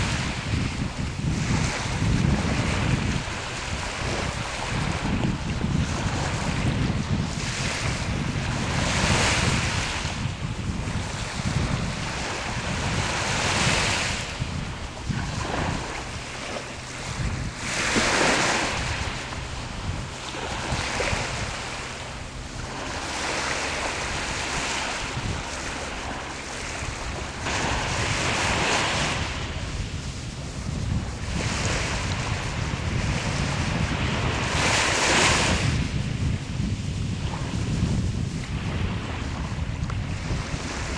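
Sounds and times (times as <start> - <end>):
small waves breaking on shore: 0.0 - 40.9
wind rumble on microphone: 0.0 - 40.9.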